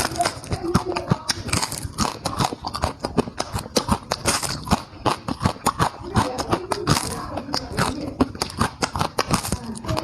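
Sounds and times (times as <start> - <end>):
person chewing and lip-smacking: 0.0 - 10.0.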